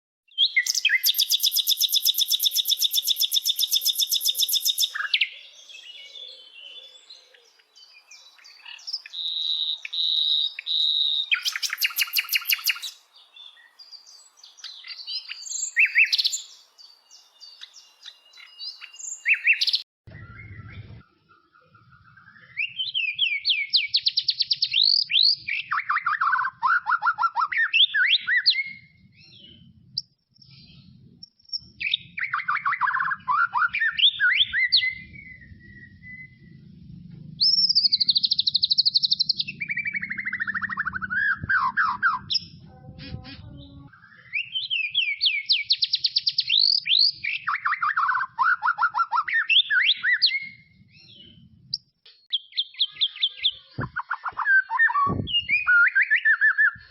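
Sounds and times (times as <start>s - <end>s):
bird singing rapid repeated notes: 0.3s - 56.9s.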